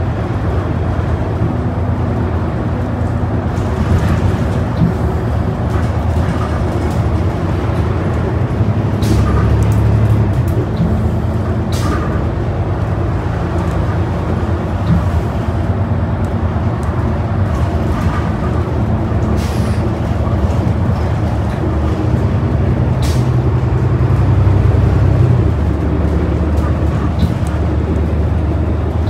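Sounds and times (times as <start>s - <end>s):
bus engine and road hum: 0.0s - 29.0s.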